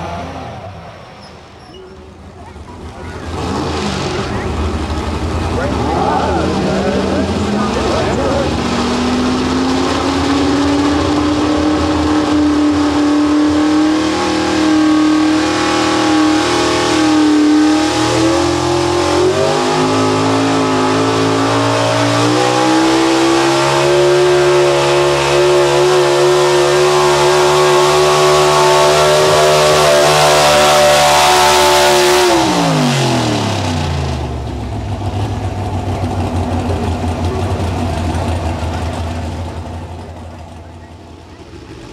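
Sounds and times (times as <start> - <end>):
truck engine revving under load: 0.0 - 41.9.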